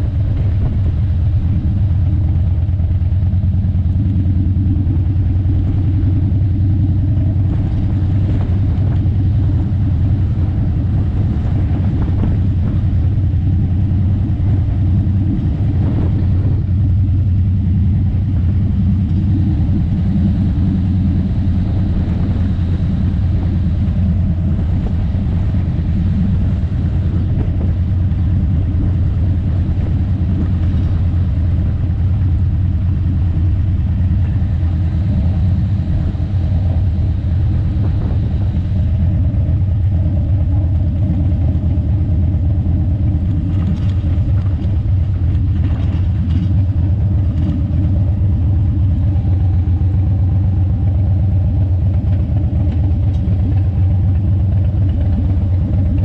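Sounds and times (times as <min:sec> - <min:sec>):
vehicle rumble: 0:00.0 - 0:56.0
wind and road noise: 0:00.0 - 0:56.0.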